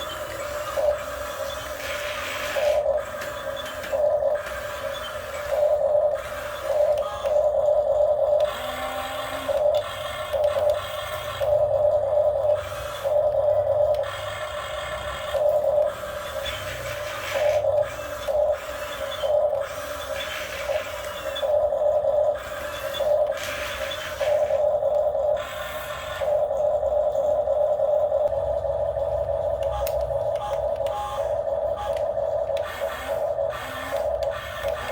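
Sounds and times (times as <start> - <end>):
small electric motors whining: 0.0 - 34.9.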